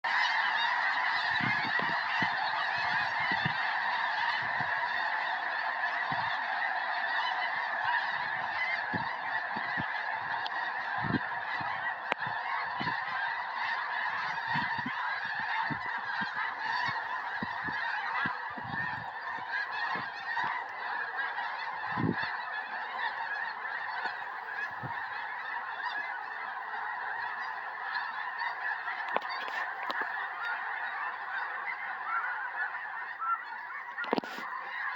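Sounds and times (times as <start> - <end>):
flock of geese honking: 0.0 - 34.9.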